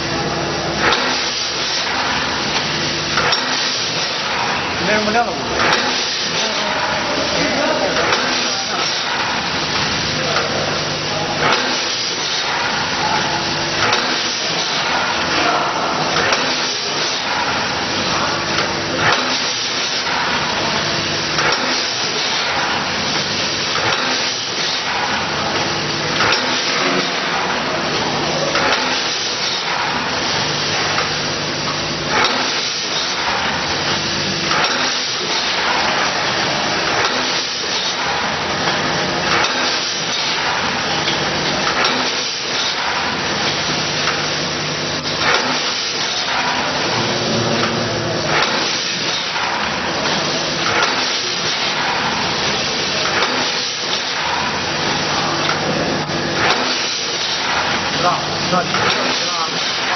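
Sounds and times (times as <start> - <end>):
machine hissing: 0.6 - 59.9
machine clacks: 0.8 - 59.9.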